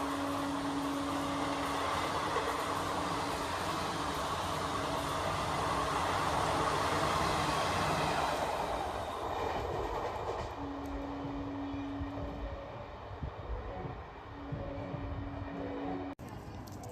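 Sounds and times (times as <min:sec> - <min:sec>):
train wheels on rails: 0:00.0 - 0:16.9.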